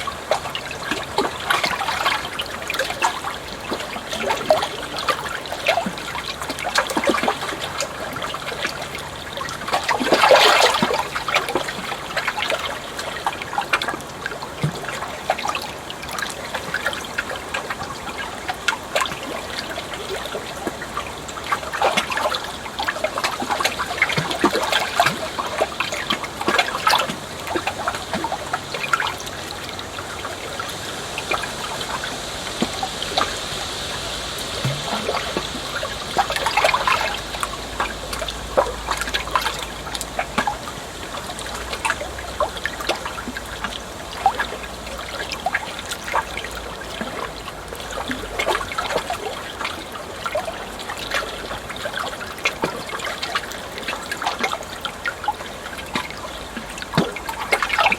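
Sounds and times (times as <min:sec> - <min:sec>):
water trickling and splashing: 0:00.0 - 0:57.9.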